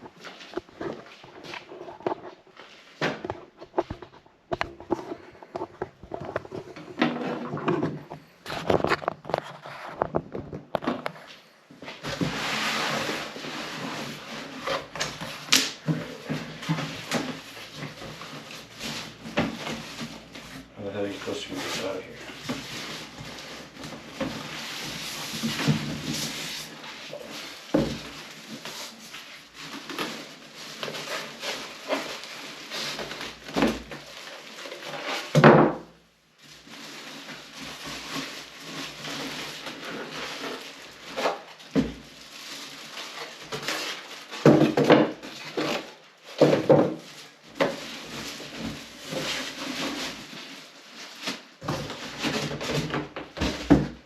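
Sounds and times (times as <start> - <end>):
cardboard box scraping and rustling: 0.0 - 35.5, 36.4 - 54.0.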